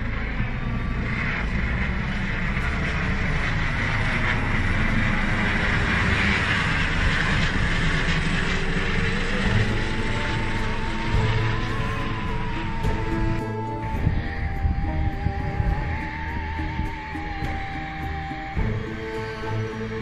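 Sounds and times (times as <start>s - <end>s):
helicopter engine rushing: 0.0s - 20.0s
helicopter rotor beat: 0.0s - 20.0s.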